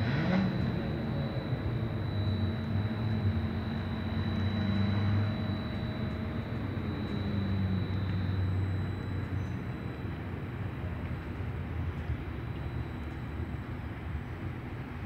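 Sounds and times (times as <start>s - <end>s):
bridge machinery humming and whining: 0.0s - 15.0s.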